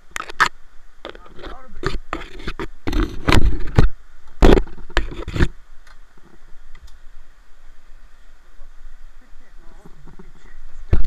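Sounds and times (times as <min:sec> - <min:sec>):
faint water noise: 0:00.0 - 0:11.0.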